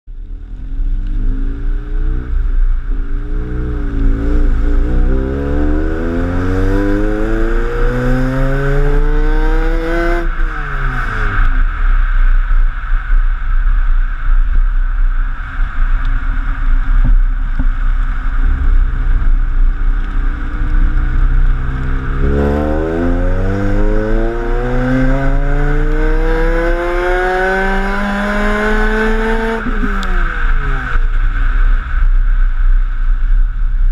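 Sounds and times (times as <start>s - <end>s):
car engine accelerating: 0.1s - 13.1s, 15.2s - 32.9s.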